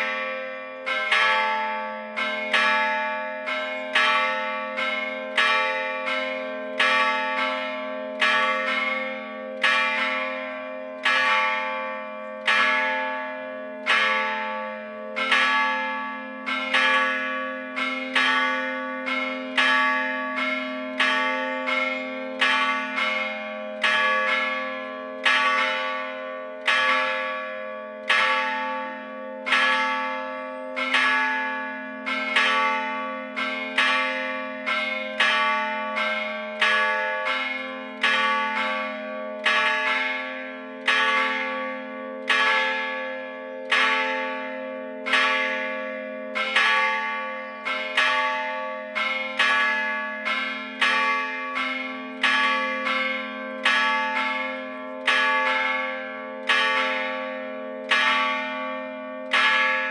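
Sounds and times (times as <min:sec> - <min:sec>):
church bells struck by hammers: 0:00.0 - 0:59.9.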